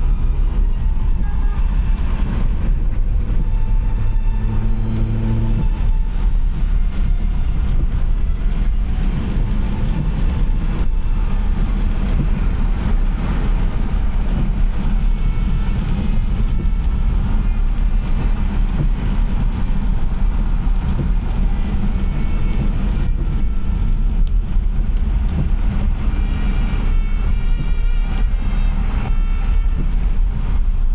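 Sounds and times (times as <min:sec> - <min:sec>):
car driving low rumble: 0:00.0 - 0:30.9.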